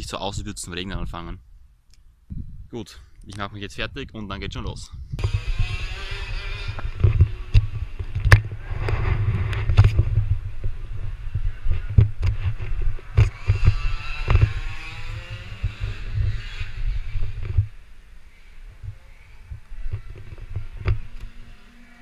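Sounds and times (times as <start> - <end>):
wind buffeting microphone: 0.0 - 21.7.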